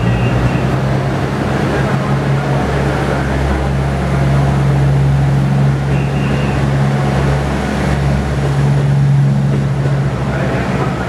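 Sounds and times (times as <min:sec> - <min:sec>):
diesel railcar engines droning: 0:00.0 - 0:11.0
rumble of moving train cars: 0:00.0 - 0:11.0.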